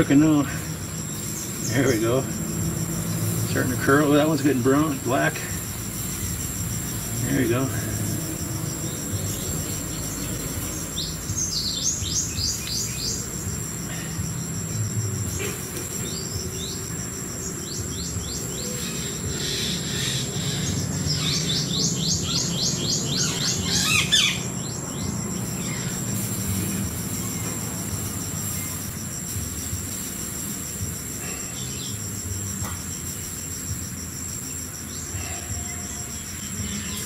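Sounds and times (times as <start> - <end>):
insects droning: 0.0 - 37.0
songbird chirping: 0.0 - 37.0.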